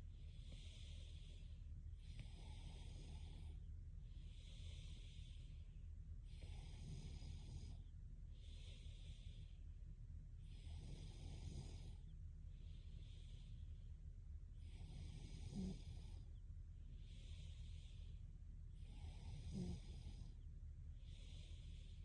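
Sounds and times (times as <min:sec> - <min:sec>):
steady low hum: 0:00.0 - 0:22.0
woman breathing in sleep: 0:00.0 - 0:22.0.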